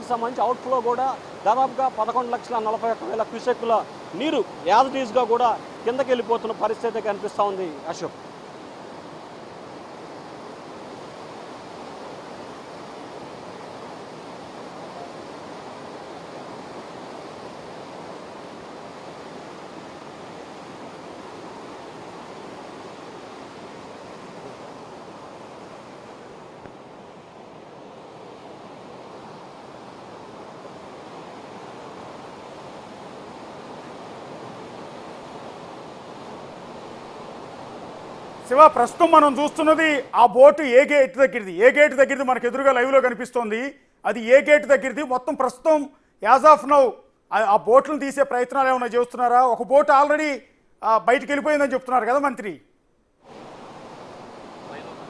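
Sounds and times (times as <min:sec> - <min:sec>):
rushing water: 0:00.0 - 0:50.4, 0:53.2 - 0:55.0.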